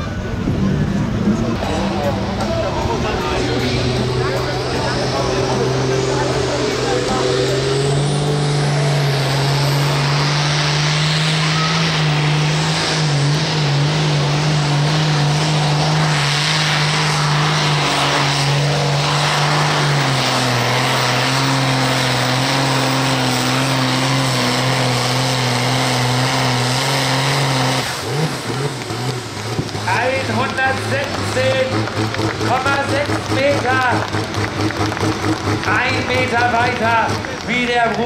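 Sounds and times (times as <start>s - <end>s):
tractor diesel engine droning: 0.0s - 38.0s.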